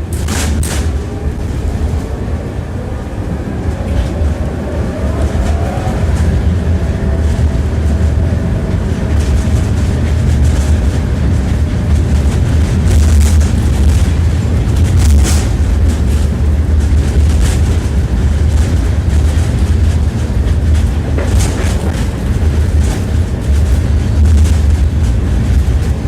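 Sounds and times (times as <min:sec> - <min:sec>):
tram rumbling on rails: 0:00.0 - 0:26.0
wheels clacking over rail joints: 0:00.0 - 0:26.0.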